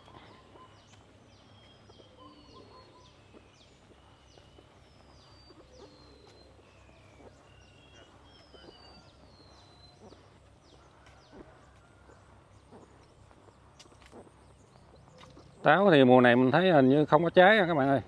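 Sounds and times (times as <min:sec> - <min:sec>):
faint birdsong whistles: 0:00.0 - 0:15.8.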